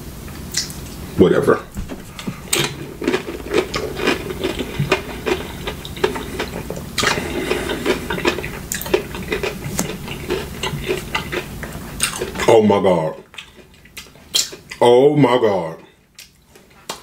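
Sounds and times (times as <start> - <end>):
eating crunches and clicks: 0.5 - 1.0, 2.5 - 14.9, 15.8 - 17.0.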